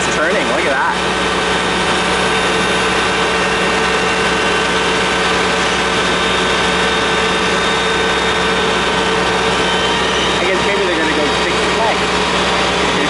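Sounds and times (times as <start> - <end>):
diesel engine running: 0.0 - 13.0
hydraulic whining tones: 0.0 - 13.0.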